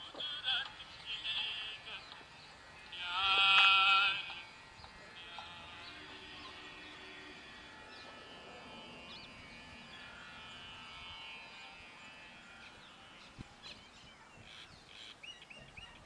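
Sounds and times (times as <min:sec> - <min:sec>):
birds chirping: 0:00.0 - 0:16.0
rapid repeated bird call: 0:00.0 - 0:16.0.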